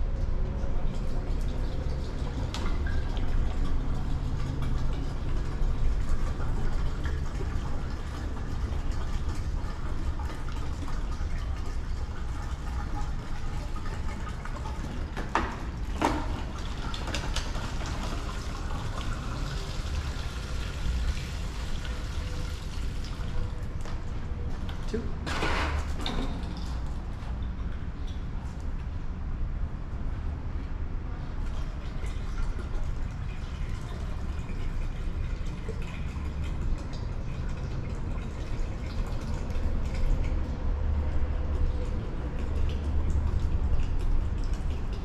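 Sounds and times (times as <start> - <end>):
water pouring into plastic jug: 0.8 - 27.1, 31.3 - 45.0.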